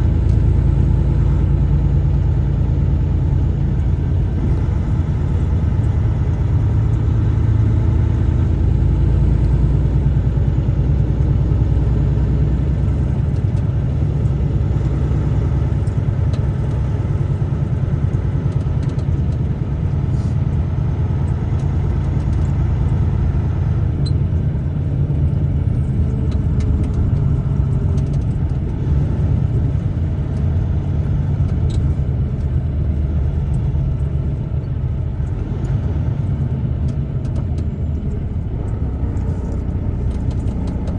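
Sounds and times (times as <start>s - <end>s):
truck engine and road noise: 0.0s - 40.9s.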